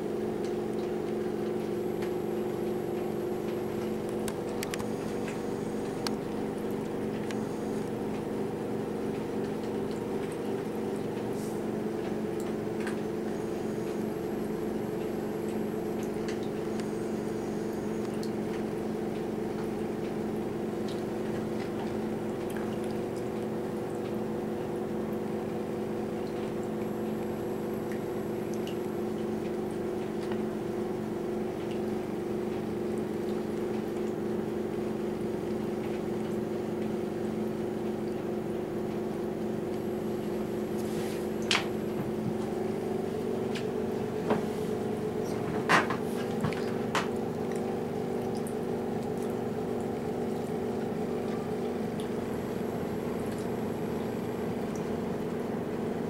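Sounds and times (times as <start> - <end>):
machine hum with held tones: 0.0 - 56.0
watery burble: 3.6 - 25.3, 25.9 - 56.0.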